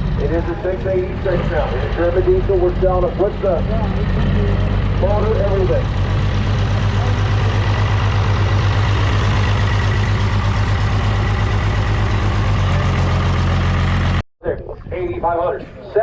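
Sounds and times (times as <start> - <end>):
tractor diesel engine idling: 0.0 - 14.2.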